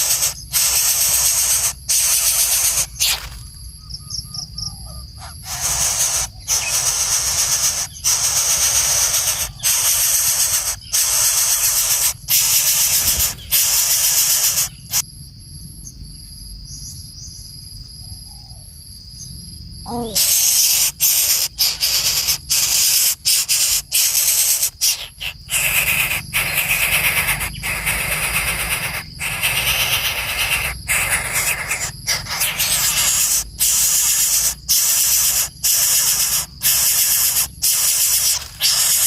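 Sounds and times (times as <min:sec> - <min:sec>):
bird hissing: 0:00.0 - 0:03.4, 0:05.2 - 0:15.0, 0:19.9 - 0:39.0.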